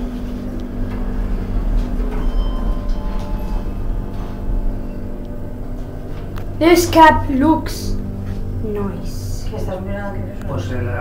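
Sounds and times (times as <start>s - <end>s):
lift car humming: 0.0s - 11.0s.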